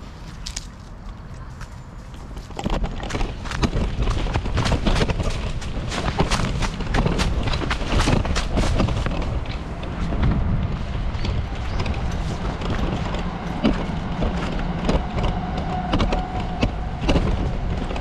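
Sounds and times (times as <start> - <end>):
running footsteps on dry leaves: 0.0 - 15.5
wind rumble: 0.0 - 18.0.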